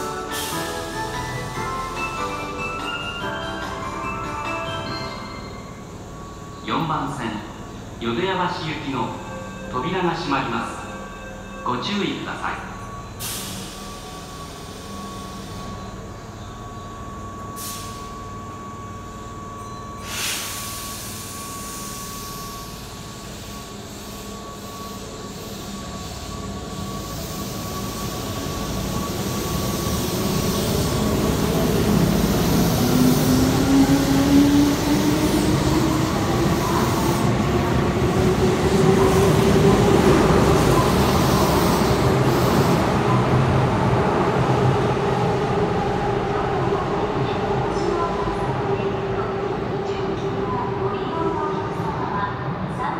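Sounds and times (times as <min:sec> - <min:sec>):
electric train accelerating: 0:00.0 - 0:52.8.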